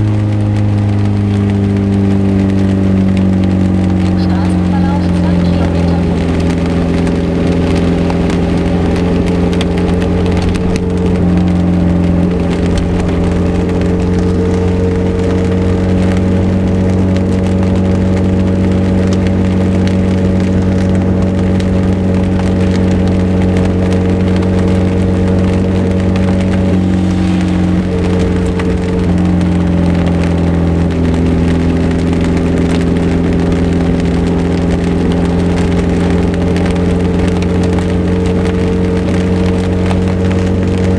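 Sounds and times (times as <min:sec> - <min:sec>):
car engine droning: 0:00.0 - 0:40.9
heavy rain hitting car: 0:00.0 - 0:40.9.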